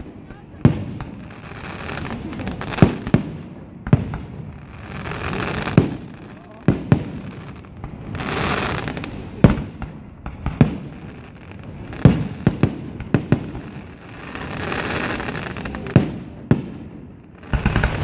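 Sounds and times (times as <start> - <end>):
firework rushing hiss: 0.0 - 16.8, 17.4 - 18.0
firework bangs: 0.0 - 18.0.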